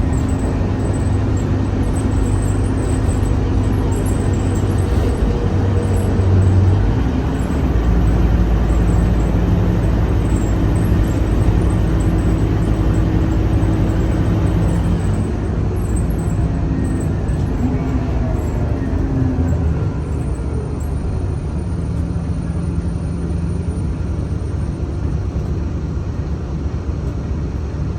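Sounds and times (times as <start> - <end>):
bus engine rumbling: 0.0 - 27.9.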